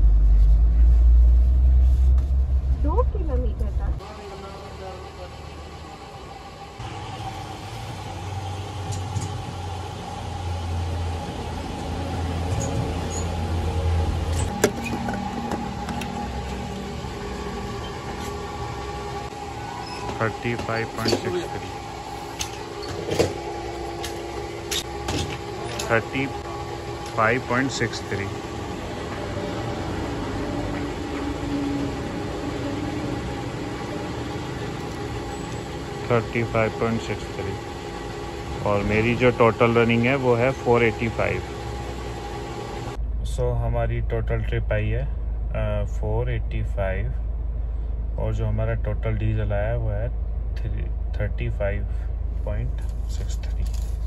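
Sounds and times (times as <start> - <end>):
fuel pump humming: 0.0 - 43.4.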